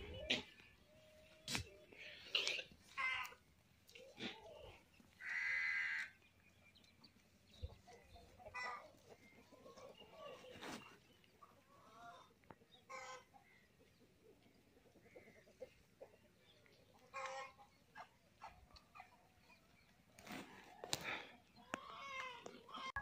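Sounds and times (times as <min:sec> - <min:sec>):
chickens clucking faintly: 0:00.0 - 0:05.3, 0:06.0 - 0:23.0
farmyard sounds: 0:00.0 - 0:23.0.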